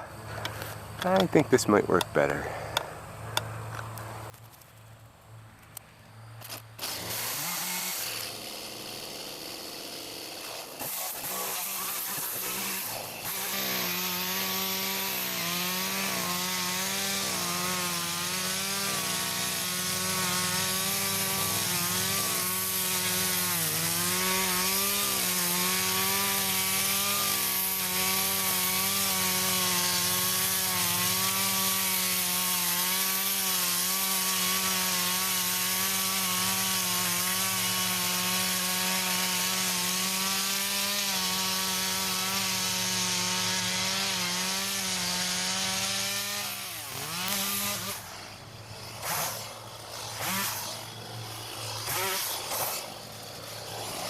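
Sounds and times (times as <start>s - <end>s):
chainsaw cutting at high revs: 0.0s - 4.1s, 6.4s - 54.0s.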